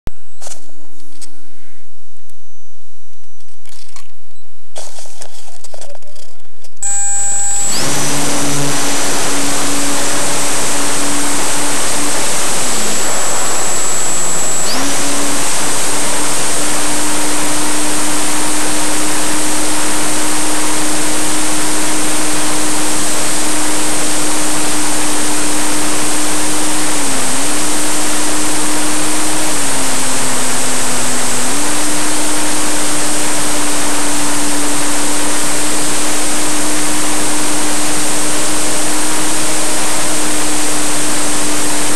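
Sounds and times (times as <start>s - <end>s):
electric motor and propeller hum: 6.8s - 41.9s.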